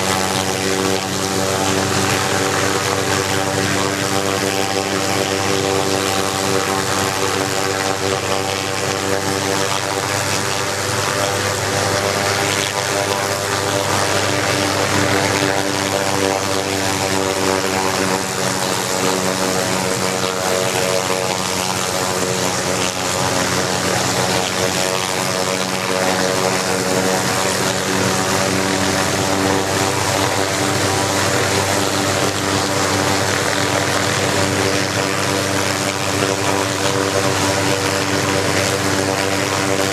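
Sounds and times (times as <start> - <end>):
helicopter rotor turning: 0.0 - 39.9
helicopter turbine engine whine: 0.0 - 39.9.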